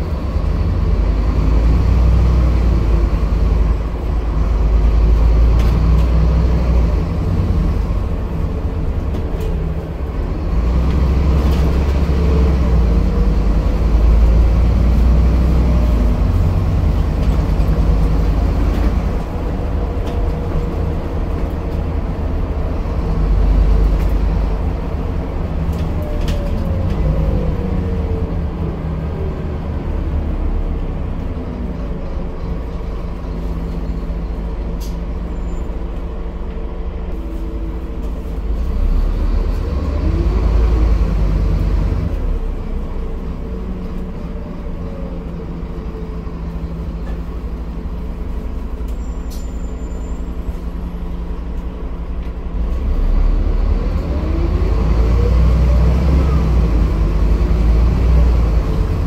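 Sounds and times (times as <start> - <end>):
bus diesel engine accelerating: 0.0 - 59.0.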